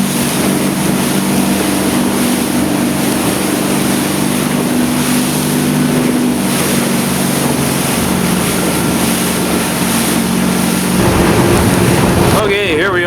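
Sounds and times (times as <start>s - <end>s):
outboard engine running: 0.0s - 13.0s
rush of wind and water: 0.0s - 13.0s.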